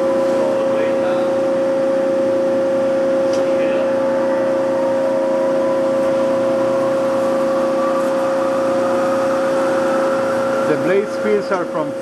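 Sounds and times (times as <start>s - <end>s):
bandsaw humming with whine: 0.0s - 12.0s.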